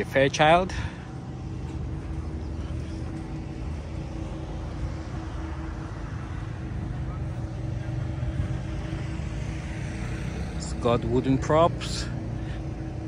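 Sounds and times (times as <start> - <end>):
low engine drone: 0.0 - 13.0
outdoor background noise: 0.0 - 13.0.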